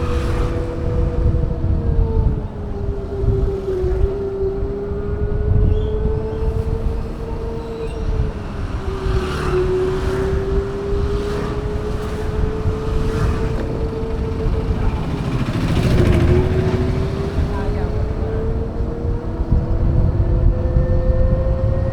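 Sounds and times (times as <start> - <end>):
electric scooter motor whine: 0.0 - 21.9
wind on microphone: 0.0 - 21.9.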